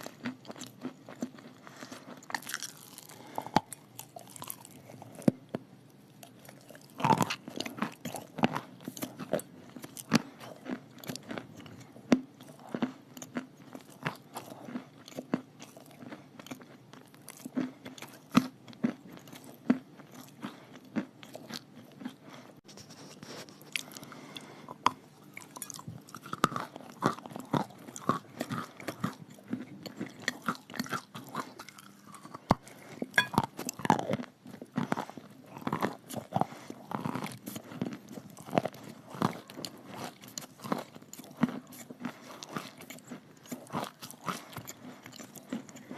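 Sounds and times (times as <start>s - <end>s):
chalk crunching while chewed: 0.0s - 45.9s.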